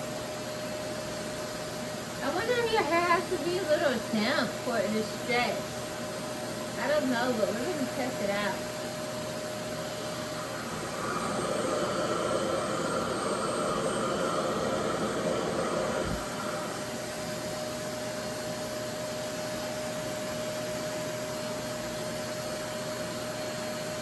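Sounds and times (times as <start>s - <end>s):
hair dryer whoosh and hum: 0.0s - 24.0s.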